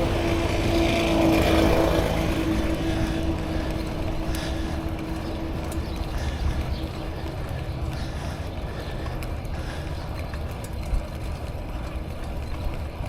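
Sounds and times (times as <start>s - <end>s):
road and bike noise: 0.0s - 13.0s
wind buffeting microphone: 0.0s - 13.0s.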